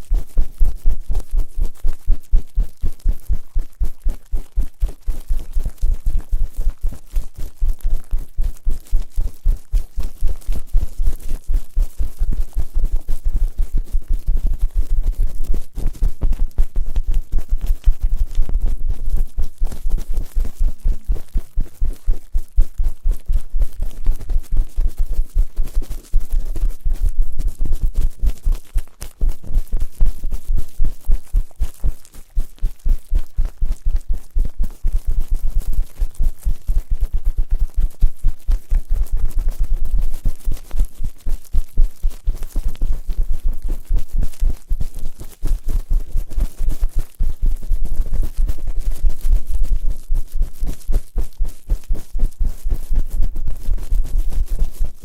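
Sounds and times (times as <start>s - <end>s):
rubbing on binaural microphone: 0.0s - 55.0s.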